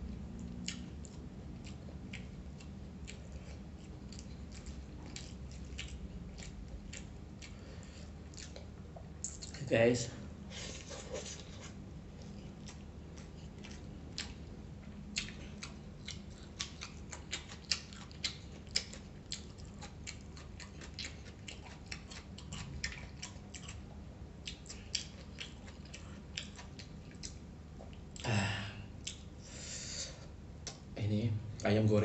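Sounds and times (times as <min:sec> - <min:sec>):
person chewing with wet clicks: 0:00.0 - 0:09.7, 0:11.4 - 0:28.3, 0:28.9 - 0:29.4, 0:30.6 - 0:31.0
low steady hum: 0:00.0 - 0:32.0.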